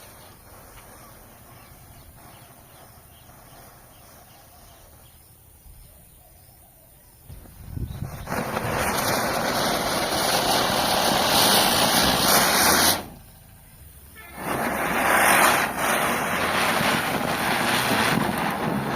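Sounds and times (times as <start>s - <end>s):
spinner fireworks hissing: 0.0s - 18.9s.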